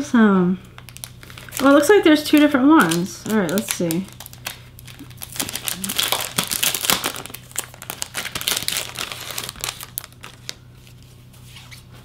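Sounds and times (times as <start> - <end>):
crinkling plastic wrapping: 0.7 - 11.1.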